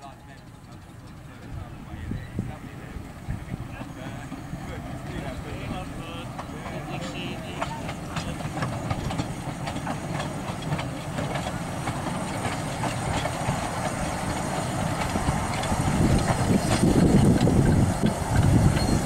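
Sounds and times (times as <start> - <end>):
train wheel clicks: 0.0 - 2.4, 3.0 - 19.0
steam train rumbling on rails: 0.0 - 19.0.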